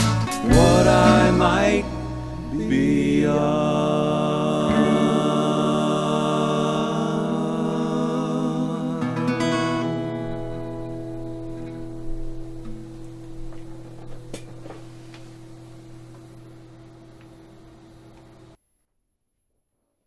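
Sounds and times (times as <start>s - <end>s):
guitars ringing chord: 0.0s - 18.6s.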